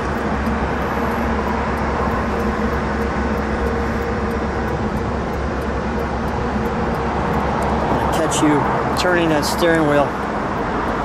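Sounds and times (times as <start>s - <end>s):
car engine running smooth: 0.0s - 11.0s
road and wind noise: 0.0s - 11.0s.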